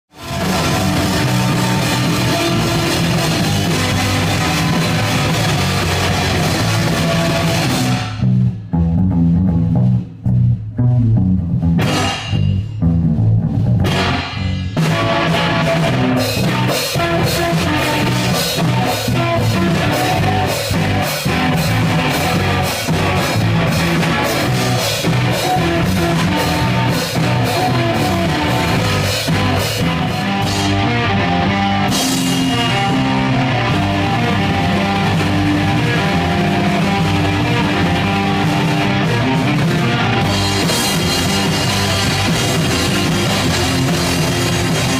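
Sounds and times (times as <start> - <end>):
live rock band playing: 0.1 - 44.9.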